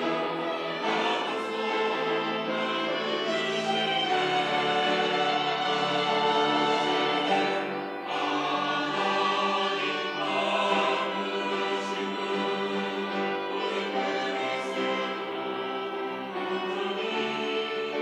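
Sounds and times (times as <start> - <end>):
choir singing sustained chords: 0.0 - 18.0.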